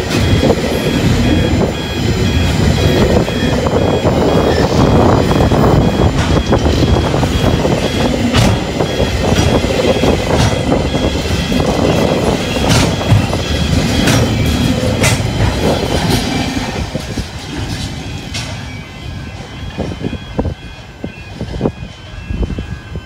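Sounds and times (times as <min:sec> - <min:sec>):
wheels clattering over rail joints: 0:00.0 - 0:20.2
freight train wagons rumbling: 0:00.0 - 0:23.0.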